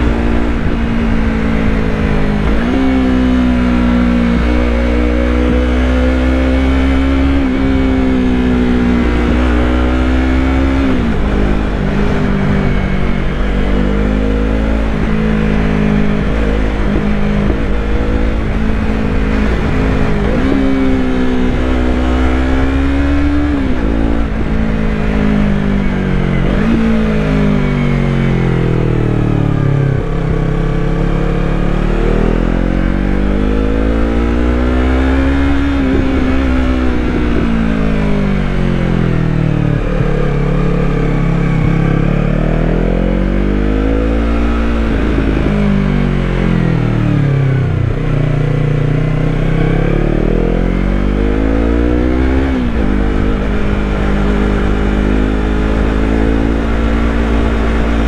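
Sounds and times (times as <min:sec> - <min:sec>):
motorcycle engine riding: 0:00.0 - 0:58.0.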